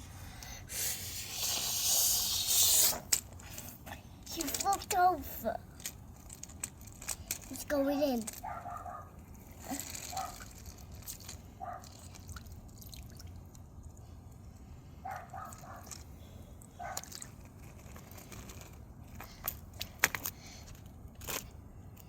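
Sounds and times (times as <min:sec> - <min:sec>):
small clicks and crunches: 0:02.8 - 0:22.0.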